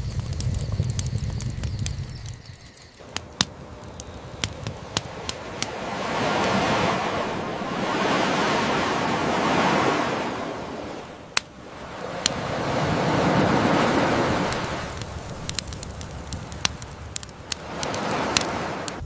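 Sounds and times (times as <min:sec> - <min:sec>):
campfire crackling and popping: 0:00.0 - 0:19.0
ocean wave washing in: 0:03.0 - 0:19.0.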